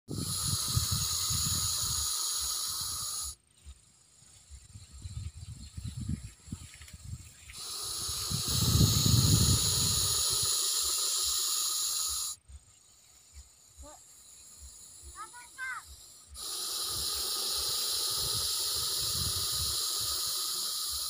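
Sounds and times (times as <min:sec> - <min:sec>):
snake hissing: 0:00.1 - 0:21.0.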